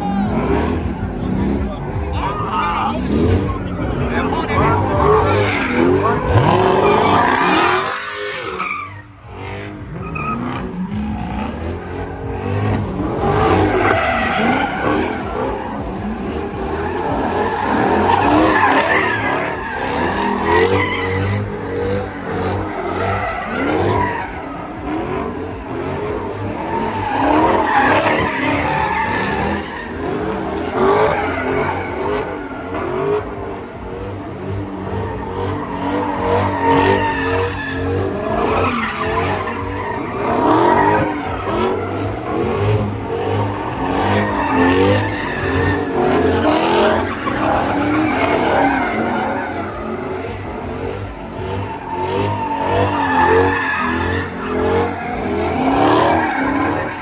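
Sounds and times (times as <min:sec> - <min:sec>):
car engines revving: 0:00.0 - 0:57.0
tires squealing on asphalt: 0:00.0 - 0:57.0.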